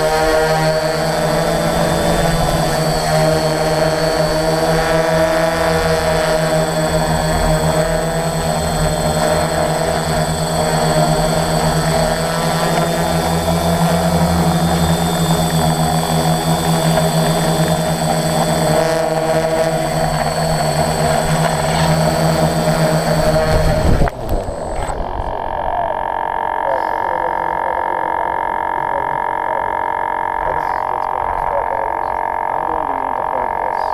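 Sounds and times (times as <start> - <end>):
drone propellers whining: 0.0 - 33.9.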